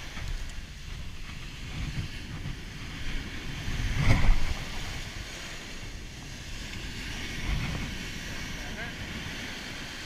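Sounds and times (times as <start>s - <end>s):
heavy surf breaking: 0.0s - 10.0s
wind buffeting microphone: 0.0s - 10.0s.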